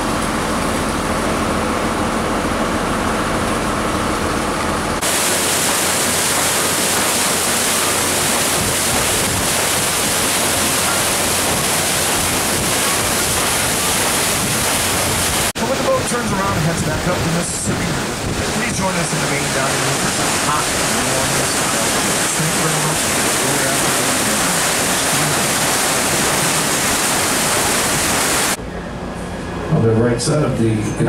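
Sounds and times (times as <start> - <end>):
paddlewheel churning water: 0.0 - 28.6.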